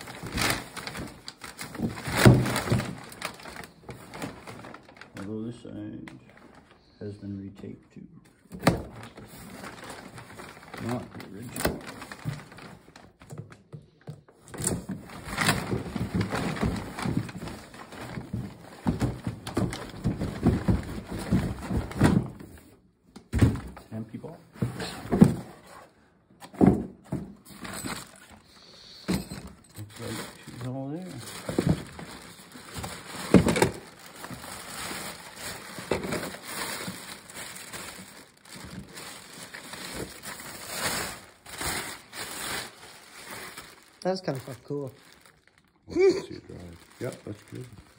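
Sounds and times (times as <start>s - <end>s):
plastic bag rustling and crinkling: 0.0s - 7.0s, 8.6s - 13.5s, 14.5s - 22.8s, 26.7s - 47.9s.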